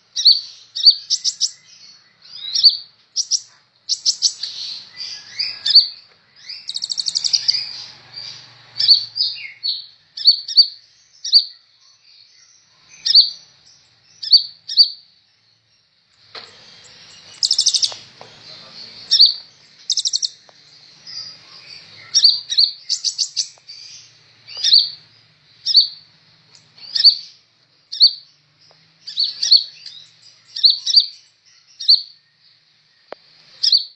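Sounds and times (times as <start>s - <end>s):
bird singing chirps and trills: 0.0s - 33.9s.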